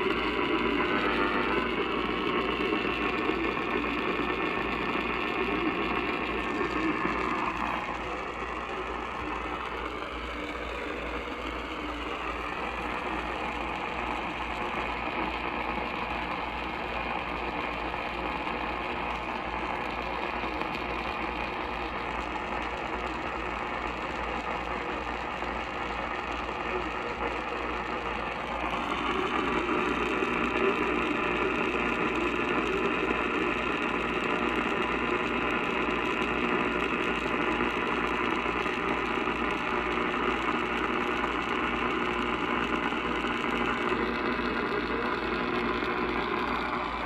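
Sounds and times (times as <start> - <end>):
crackling radio static: 0.0 - 47.0.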